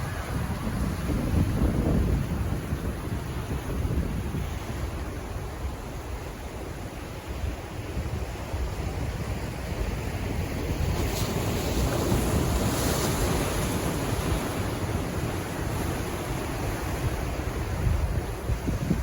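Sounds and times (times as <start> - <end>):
ocean waves washing in: 0.0 - 19.0
wind rumbling on microphone: 0.0 - 19.0.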